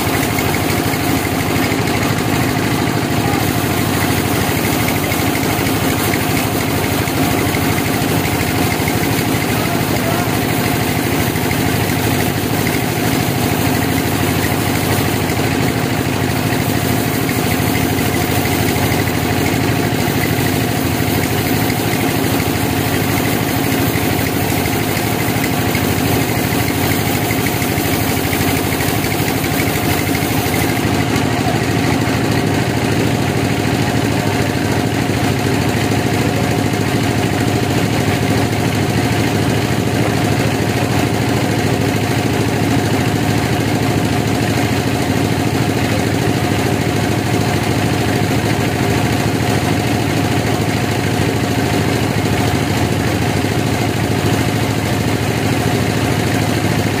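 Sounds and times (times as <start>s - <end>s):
band sawmill machine hum: 0.0s - 57.0s.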